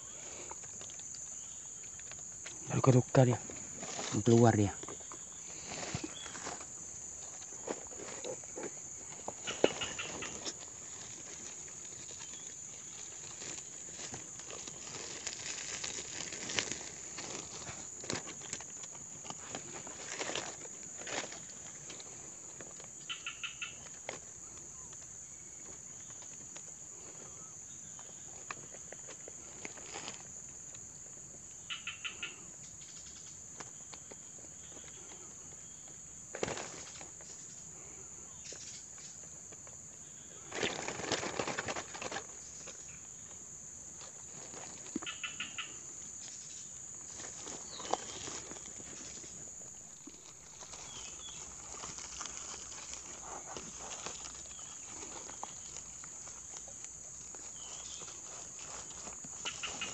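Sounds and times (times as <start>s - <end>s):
insects shrilling: 0.0s - 39.3s, 44.0s - 59.9s.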